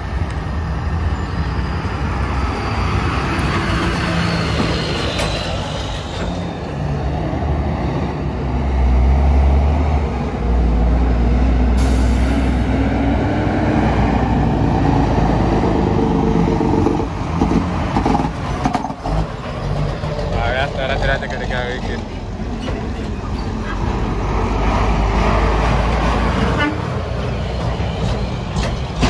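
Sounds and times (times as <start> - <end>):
diesel truck engine: 0.0 - 29.0.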